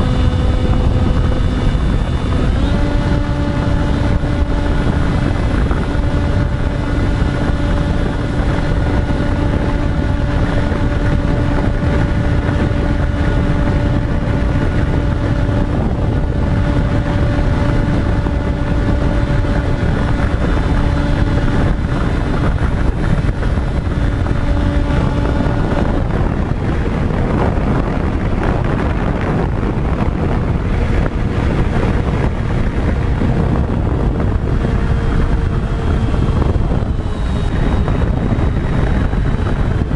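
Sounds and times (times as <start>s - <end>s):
model aircraft motors humming: 0.0s - 39.9s
wind rumble on microphone: 0.0s - 39.9s.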